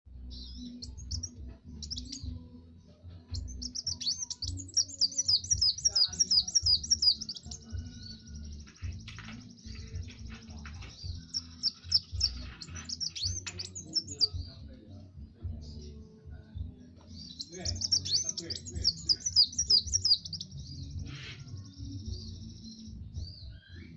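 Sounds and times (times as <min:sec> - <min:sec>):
sunbird singing: 0:00.3 - 0:02.4, 0:03.3 - 0:14.7, 0:17.1 - 0:23.9.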